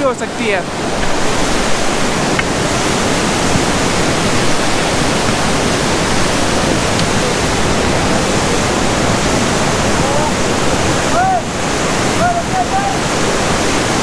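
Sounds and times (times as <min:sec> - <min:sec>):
river current rushing: 0:00.0 - 0:14.0.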